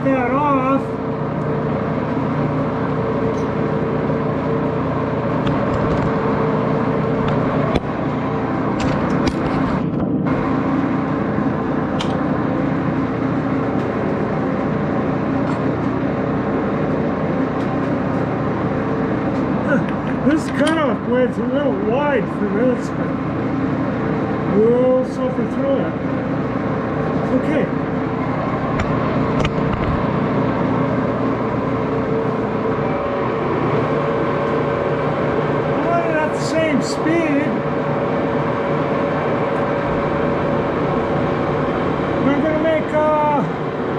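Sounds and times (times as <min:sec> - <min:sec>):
lathe humming: 0:00.0 - 0:43.9.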